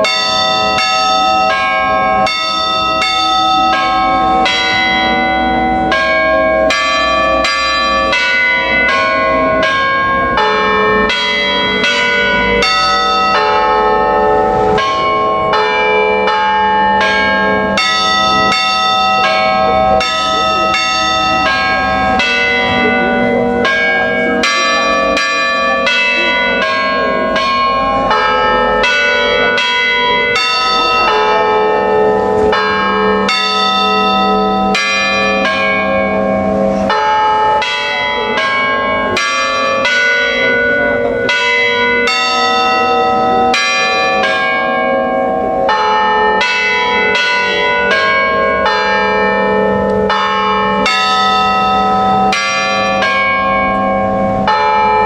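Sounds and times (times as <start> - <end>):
church bells playing melody: 0.0 - 55.0.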